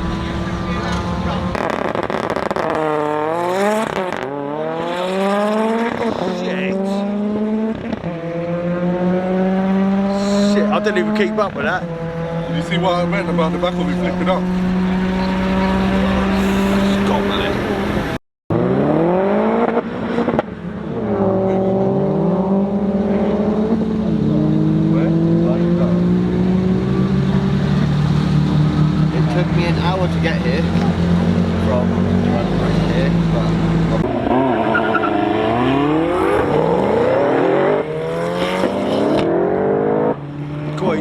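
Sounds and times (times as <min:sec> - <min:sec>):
race car engines accelerating: 0:00.0 - 0:41.0.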